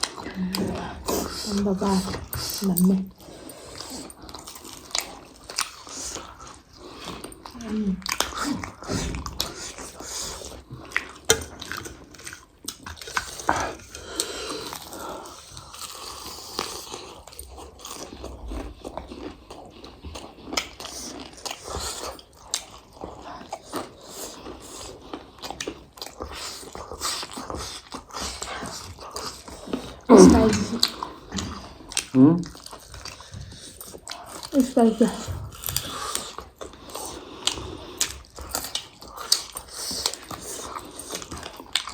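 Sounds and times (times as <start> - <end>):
people chewing food: 0.0 - 41.9.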